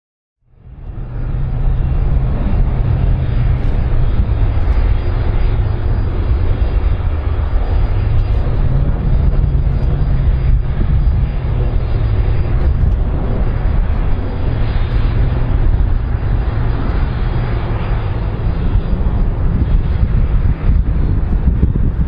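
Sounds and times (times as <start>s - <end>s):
jet engines rumbling: 0.4s - 22.0s.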